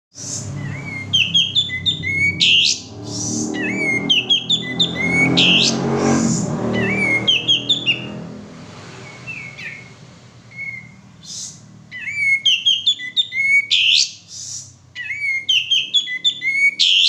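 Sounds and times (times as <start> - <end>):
bird singing whistled phrases: 0.2 - 5.8, 6.8 - 8.1, 9.0 - 9.9, 10.5 - 17.0.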